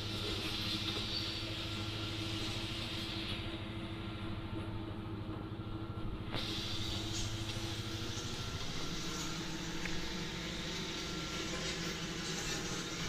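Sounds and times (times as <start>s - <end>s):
road roller diesel engine: 0.0s - 13.0s.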